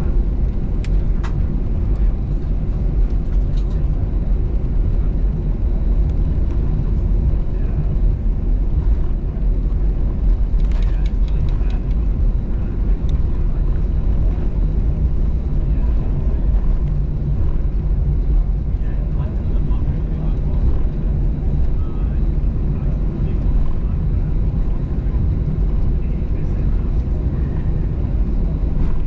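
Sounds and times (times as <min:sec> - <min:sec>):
airplane cabin rumble: 0:00.0 - 0:29.0.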